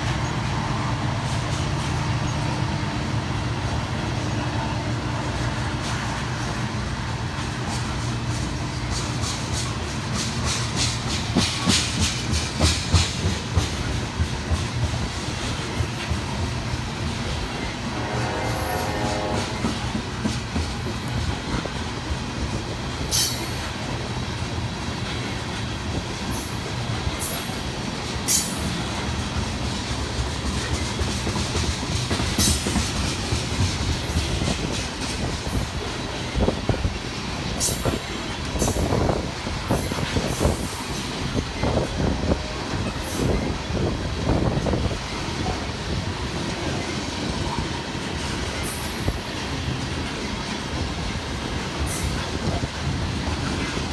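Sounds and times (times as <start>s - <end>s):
freight train wheels rumbling on rail: 0.0s - 53.9s.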